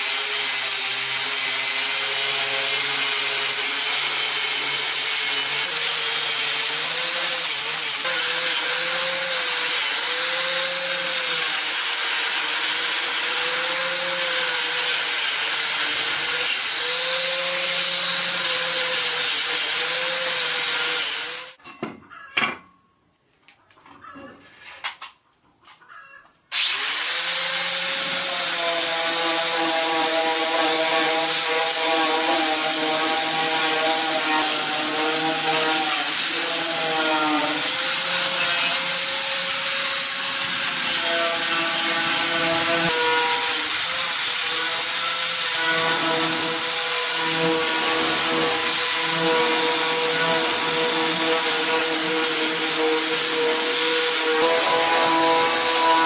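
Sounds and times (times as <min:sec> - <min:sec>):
power tool motor whining: 0:00.0 - 0:21.6, 0:26.5 - 0:56.0.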